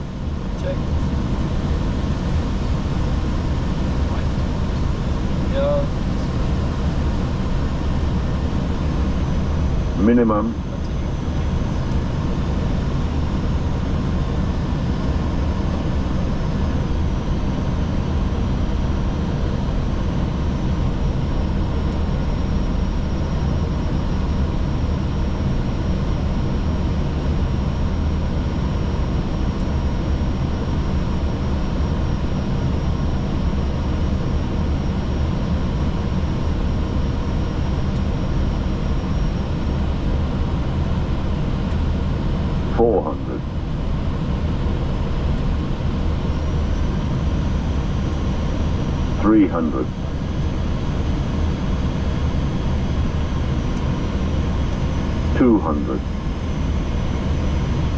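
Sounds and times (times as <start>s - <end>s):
low hum of engines: 0.0s - 57.9s.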